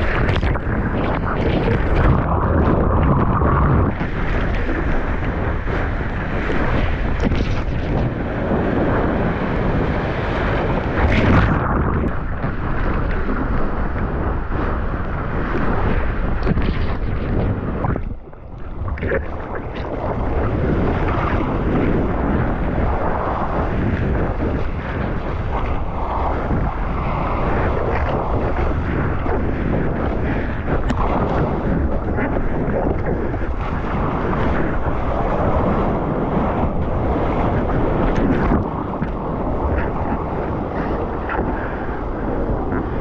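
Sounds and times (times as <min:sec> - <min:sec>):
rushing surf: 0:00.0 - 0:43.0
wind buffeting microphone: 0:00.0 - 0:43.0.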